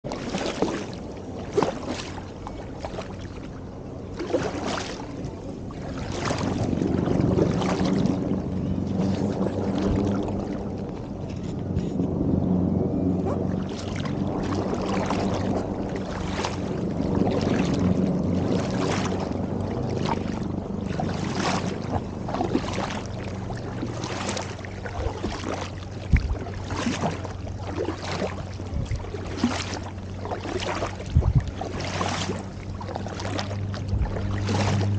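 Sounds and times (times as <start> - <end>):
paddle splashing in water: 0.0 - 12.4, 13.2 - 34.9
steady low hum: 0.0 - 34.9
water washing along hull: 0.0 - 34.9.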